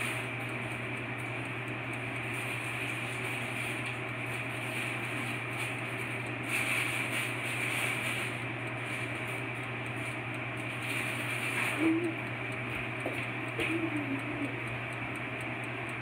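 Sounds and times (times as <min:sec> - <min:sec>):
appliance hum and hiss: 0:00.0 - 0:16.0.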